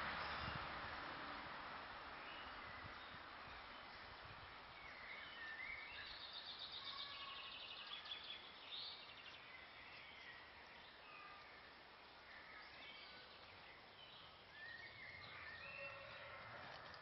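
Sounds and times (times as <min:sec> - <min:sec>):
outdoor background hiss: 0:00.0 - 0:17.0
small birds chirping and trilling: 0:02.1 - 0:17.0.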